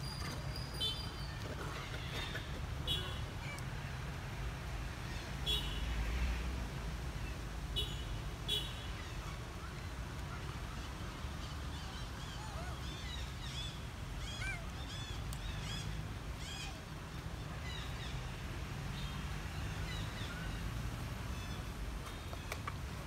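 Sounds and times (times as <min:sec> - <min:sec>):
birds chirping: 0:00.0 - 0:03.7, 0:07.2 - 0:23.0.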